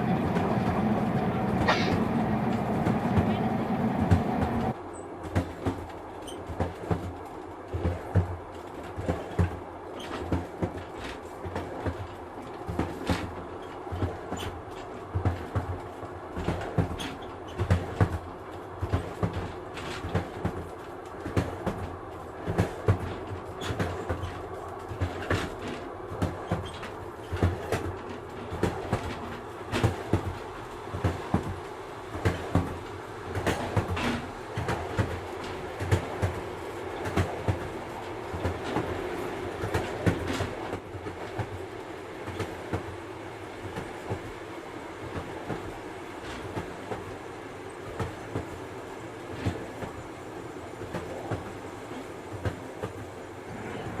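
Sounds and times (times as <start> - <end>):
train rolling rumble: 0.0 - 54.0
wheels knocking and clicking: 0.0 - 54.0.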